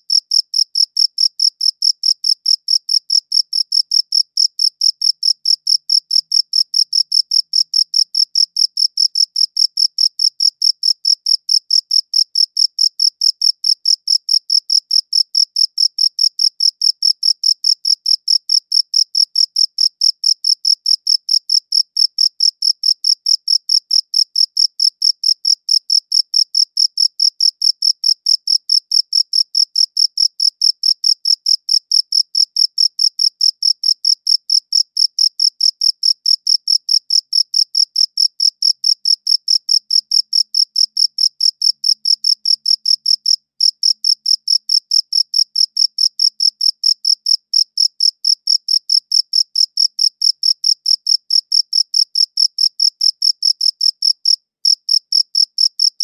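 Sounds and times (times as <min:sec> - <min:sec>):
cricket chirping: 0:00.1 - 0:56.0.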